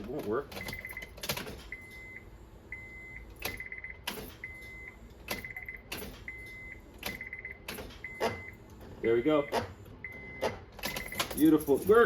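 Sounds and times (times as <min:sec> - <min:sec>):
car warning chime beeps: 0:00.6 - 0:11.4.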